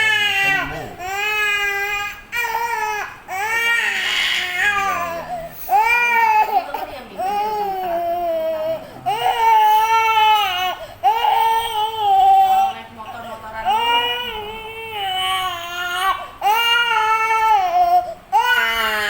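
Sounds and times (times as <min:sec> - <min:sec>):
infant crying: 0:00.0 - 0:12.8, 0:13.6 - 0:19.0.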